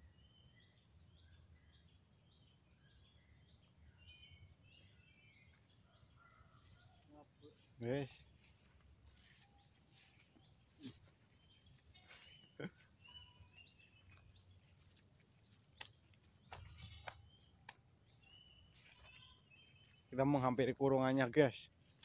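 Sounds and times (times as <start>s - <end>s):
faint bird chirps and trills: 0.0s - 22.0s.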